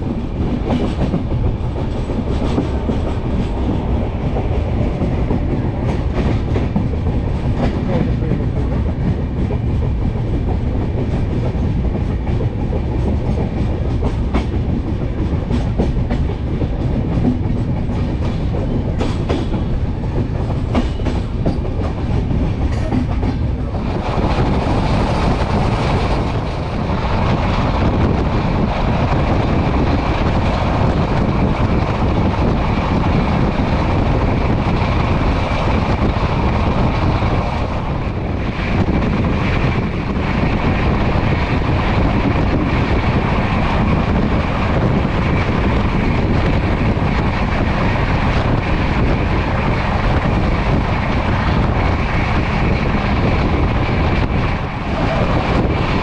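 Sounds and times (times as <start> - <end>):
passenger train running at speed: 0.0 - 56.0.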